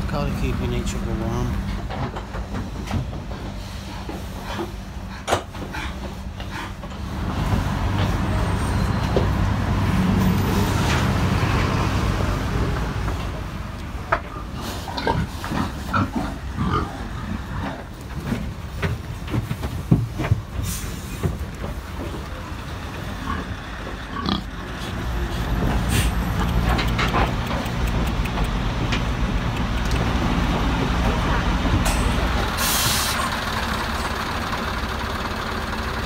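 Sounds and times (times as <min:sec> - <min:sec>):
pigs grunting and shuffling: 0:00.4 - 0:11.8, 0:12.8 - 0:32.8.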